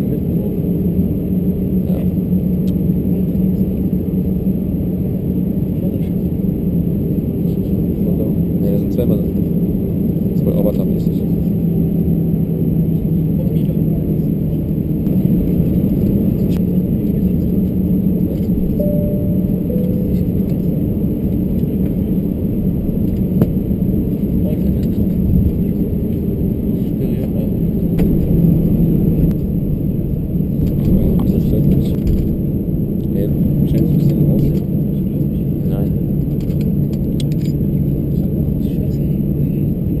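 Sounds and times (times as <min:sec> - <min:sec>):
aircraft engines idling rumble: 0:00.0 - 0:40.0.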